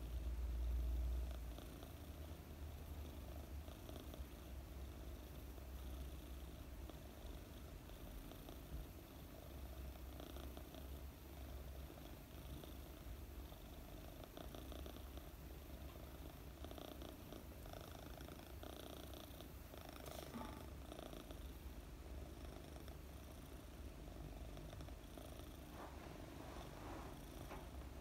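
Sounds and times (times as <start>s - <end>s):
kitten purring: 0.0s - 28.0s.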